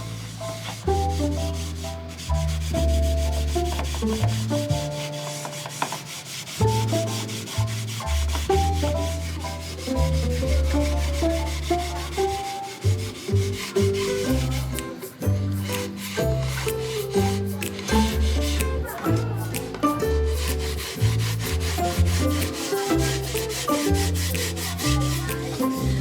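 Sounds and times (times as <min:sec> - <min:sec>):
background music with bass: 0:00.0 - 0:05.4, 0:06.5 - 0:26.0
sandpaper rubbing on wood: 0:00.0 - 0:26.0.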